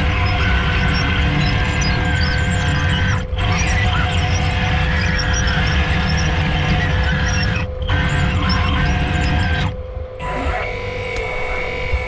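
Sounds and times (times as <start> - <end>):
hydraulic pump humming and whining: 0.0 - 12.0.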